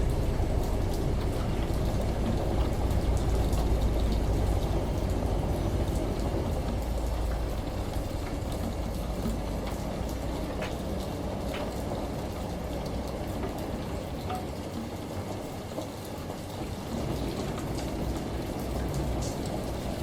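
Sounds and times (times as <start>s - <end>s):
rain patter: 0.0s - 20.0s
washing machine rumbling: 0.0s - 20.0s
water drips: 0.0s - 20.0s.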